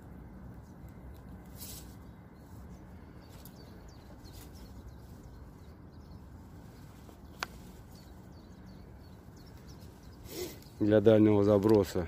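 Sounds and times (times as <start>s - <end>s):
faint birdsong: 0.0s - 12.0s
low outdoor background: 0.0s - 12.0s.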